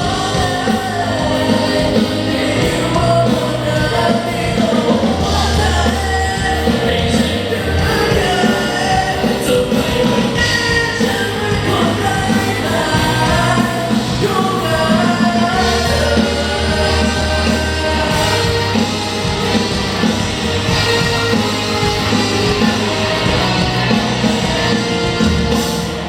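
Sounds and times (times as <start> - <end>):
live rock band: 0.0 - 26.0
person singing: 0.0 - 26.0.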